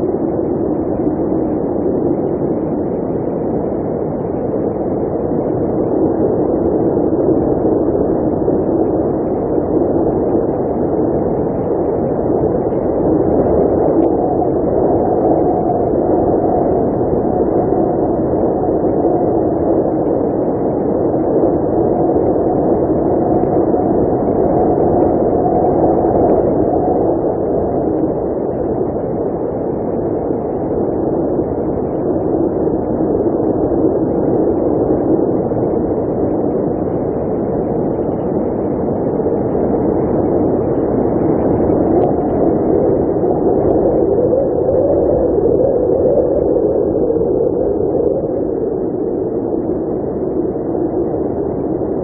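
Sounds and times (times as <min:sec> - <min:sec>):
blizzard wind blowing hard: 0:00.0 - 0:52.0.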